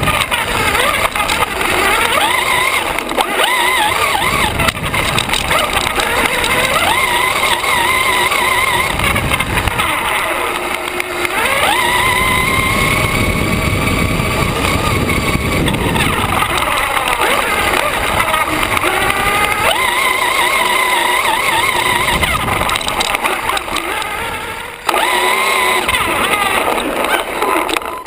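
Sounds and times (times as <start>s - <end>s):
electric motor whining: 0.0s - 28.0s
steady rushing noise: 0.0s - 28.0s.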